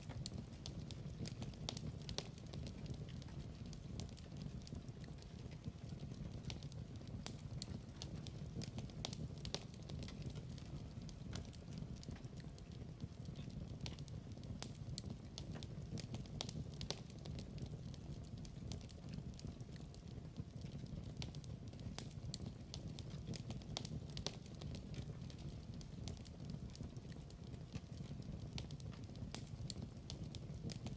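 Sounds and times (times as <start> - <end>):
log fire crackling: 0.0 - 30.9.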